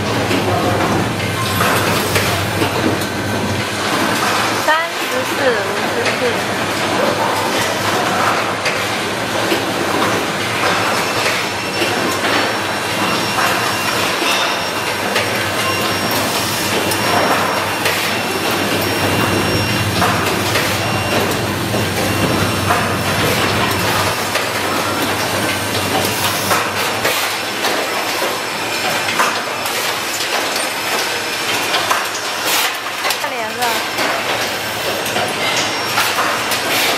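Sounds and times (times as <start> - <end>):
machines clattering with rapid clicks: 0.0 - 36.9.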